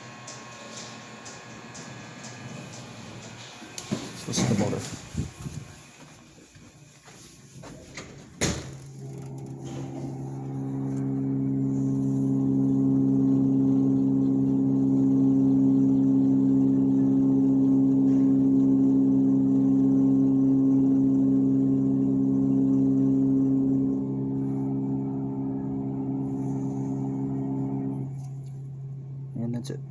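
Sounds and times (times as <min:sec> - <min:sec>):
elevator pump motor humming: 0:00.0 - 0:29.9.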